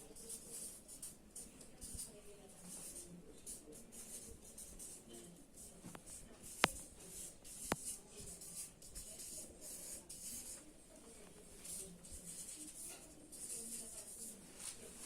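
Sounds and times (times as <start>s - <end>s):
marker scratching on paper: 0.0s - 15.0s.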